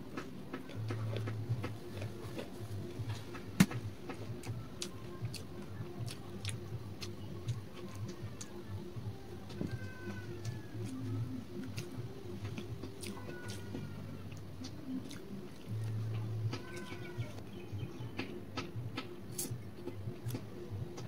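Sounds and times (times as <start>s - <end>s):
person chewing food: 0.0s - 17.4s, 19.0s - 21.0s.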